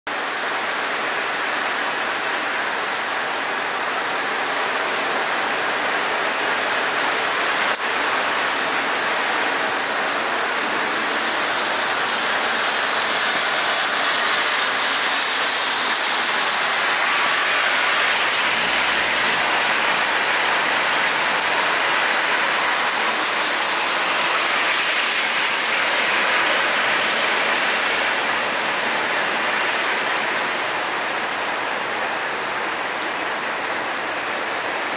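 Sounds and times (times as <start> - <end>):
rain on wet pavement: 0.1 - 34.9.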